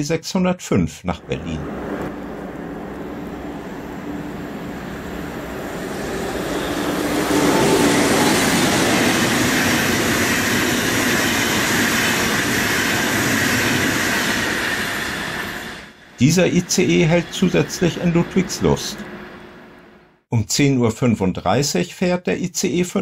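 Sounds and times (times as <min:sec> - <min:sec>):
high-speed train passing: 0:01.1 - 0:20.2.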